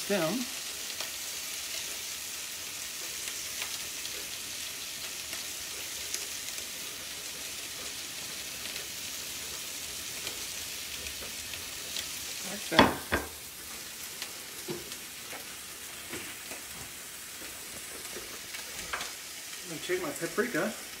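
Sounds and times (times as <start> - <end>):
scallops sizzling in frying pan: 0.0 - 21.0.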